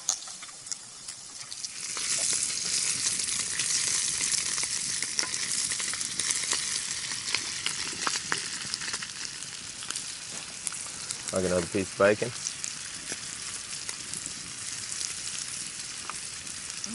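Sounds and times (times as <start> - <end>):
bacon sizzling in a skillet: 0.0 - 16.9.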